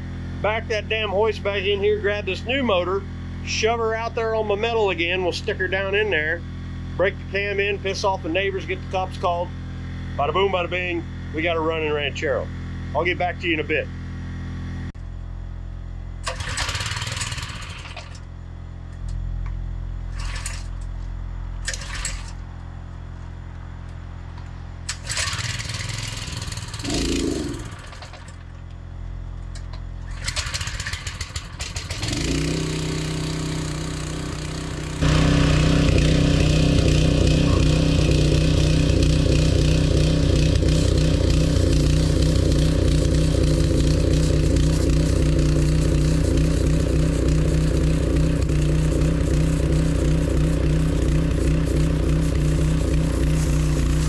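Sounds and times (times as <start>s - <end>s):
small gasoline engine running: 0.0s - 15.0s, 16.2s - 21.0s, 21.6s - 22.6s, 24.8s - 54.0s.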